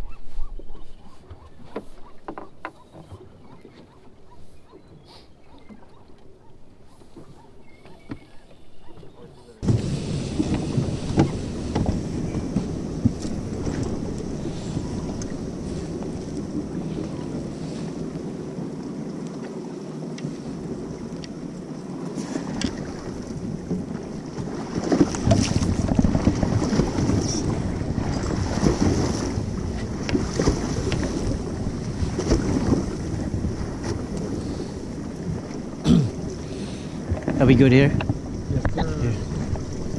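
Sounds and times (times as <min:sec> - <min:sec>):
water splashing against hull: 0:00.0 - 0:39.9
wind buffeting microphone: 0:07.3 - 0:39.9.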